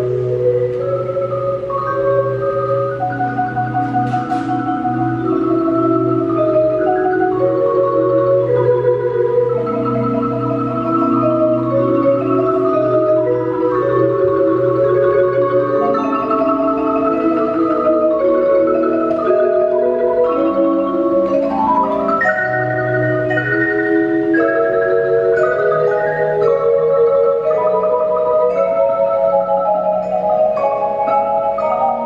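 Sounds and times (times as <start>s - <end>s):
marimbas playing rolled chords: 0.0s - 32.0s.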